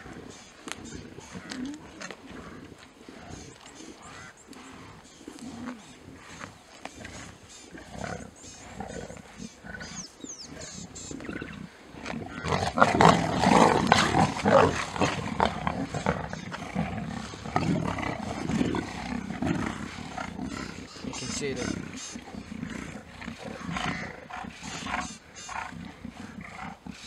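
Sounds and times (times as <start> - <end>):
lions snarling and growling: 0.0 - 27.0.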